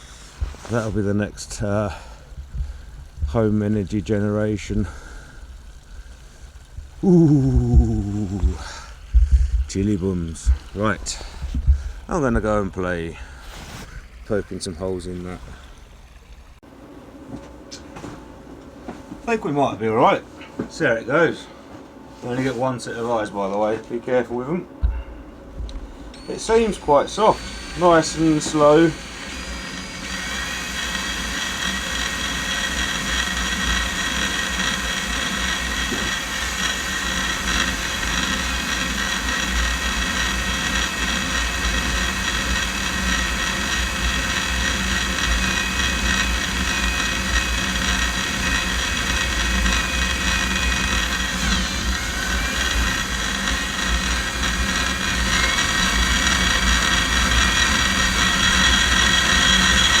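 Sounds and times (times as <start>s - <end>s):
electric drill boring into slate: 0.0s - 16.6s, 26.2s - 60.0s.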